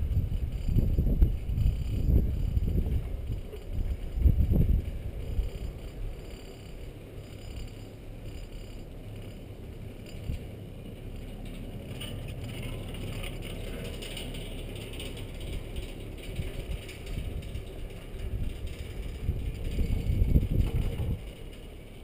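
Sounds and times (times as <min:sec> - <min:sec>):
chairlift clicking and rattling: 0:00.0 - 0:22.0
wind rumble on microphone: 0:00.0 - 0:22.0.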